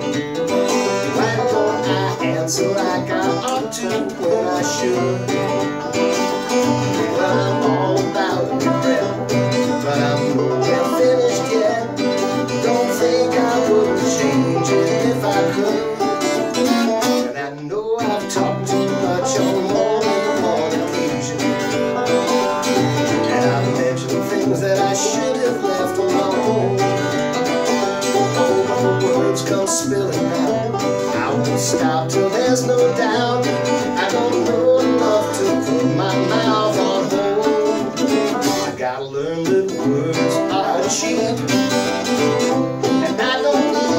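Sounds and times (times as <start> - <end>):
acoustic guitar: 0.0 - 43.9
banjo: 0.0 - 43.9
person singing: 0.0 - 43.9.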